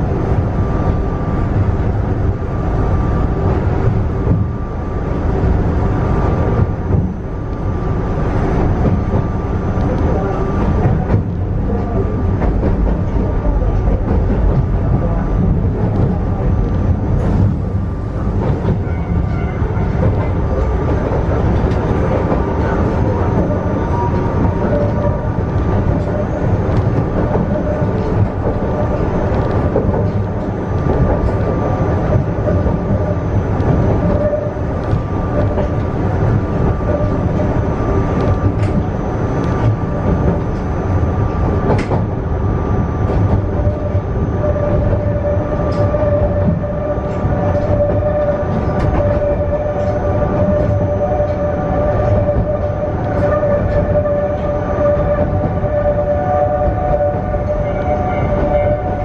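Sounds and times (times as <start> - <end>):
steady whining tone: 0.0 - 59.0
train wheels rumbling on rails: 0.0 - 59.0.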